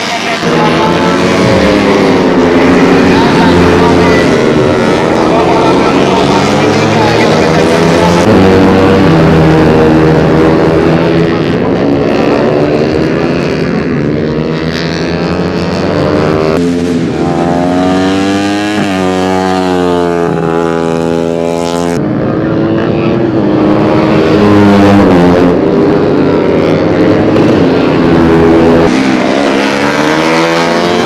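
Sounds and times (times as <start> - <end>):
racing motorcycle engines revving: 0.0 - 31.0.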